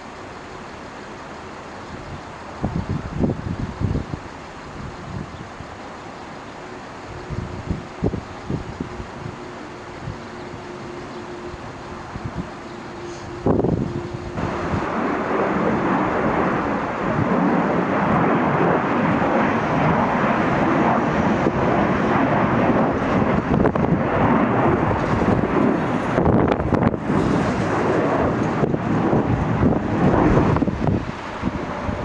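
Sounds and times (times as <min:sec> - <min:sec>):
airplane engine rushing noise: 0:00.0 - 0:32.0
wind on microphone: 0:02.0 - 0:05.7, 0:07.1 - 0:32.0.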